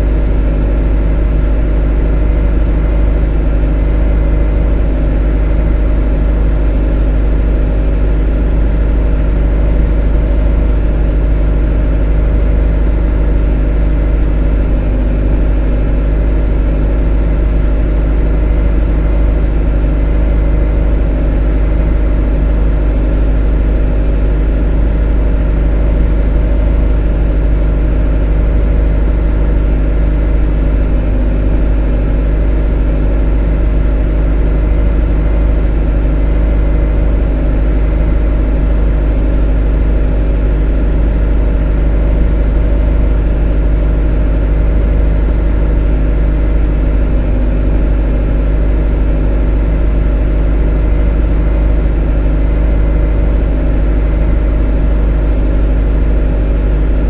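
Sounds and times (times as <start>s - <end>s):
motor droning steadily: 0.0s - 57.0s.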